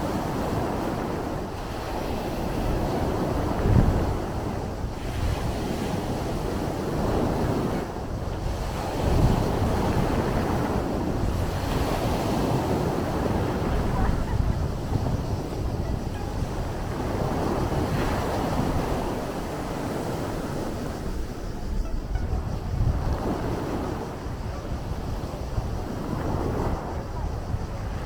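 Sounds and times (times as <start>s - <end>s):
sea waves rushing: 0.0s - 28.0s
wind rumbling on microphone: 0.0s - 28.0s.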